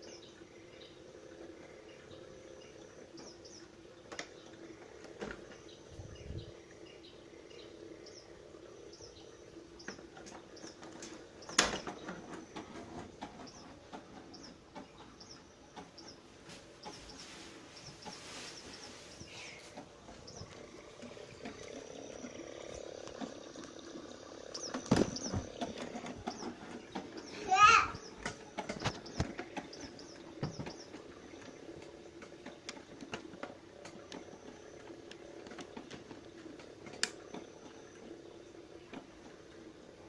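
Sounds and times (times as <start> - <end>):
recorded birds chirping: 0.0 - 40.0.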